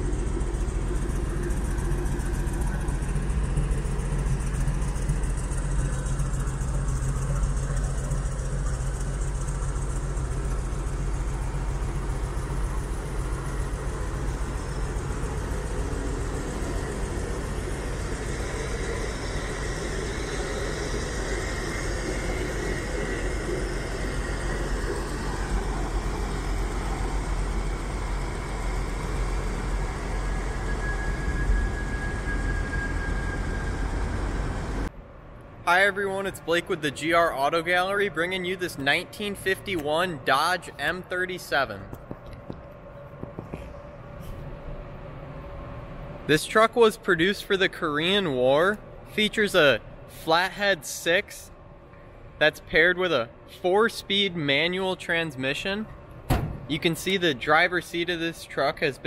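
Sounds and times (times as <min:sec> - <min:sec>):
truck engine idling: 0:00.0 - 0:34.9, 0:35.8 - 0:50.6, 0:53.6 - 0:59.0.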